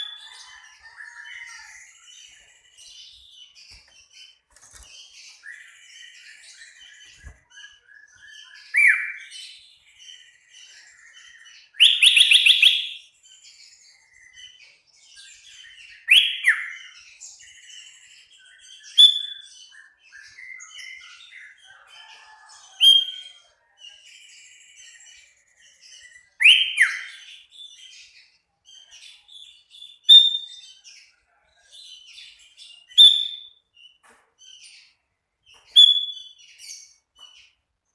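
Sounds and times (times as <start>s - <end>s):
bird singing: 0.0s - 37.9s.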